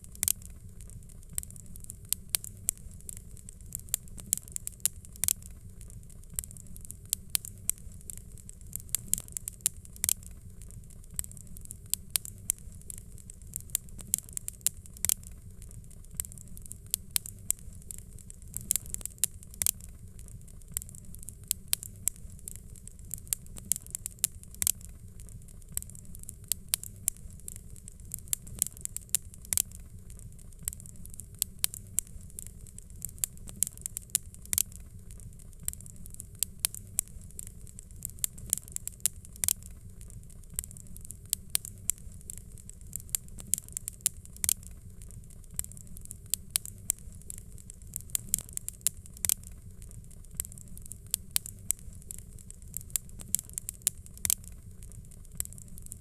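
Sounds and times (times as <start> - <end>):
fire crackling and popping: 0.0 - 56.0
low rumble and hiss: 0.0 - 56.0.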